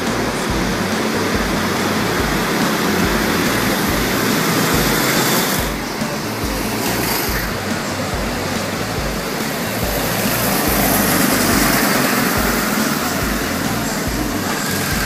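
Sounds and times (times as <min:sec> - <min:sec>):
go-kart engines running: 0:00.0 - 0:15.0.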